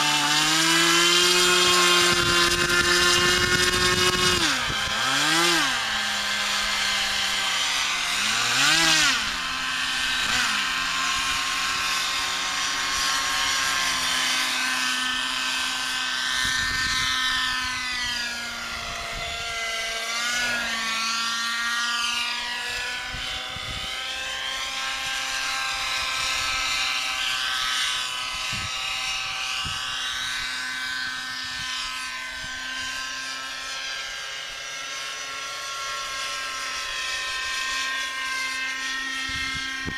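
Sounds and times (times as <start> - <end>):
model helicopter whine: 0.0 - 39.9.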